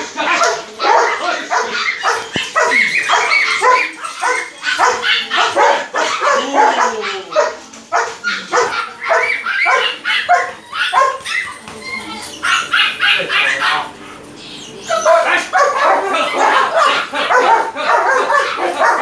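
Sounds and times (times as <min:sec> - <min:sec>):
dog barking: 0:00.4 - 0:11.7, 0:12.4 - 0:14.2, 0:14.8 - 0:19.0.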